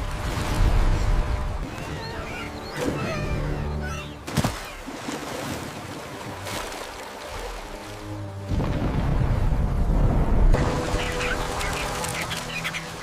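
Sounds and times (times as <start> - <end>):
water noise: 0.0 - 13.0
background music: 0.6 - 13.0.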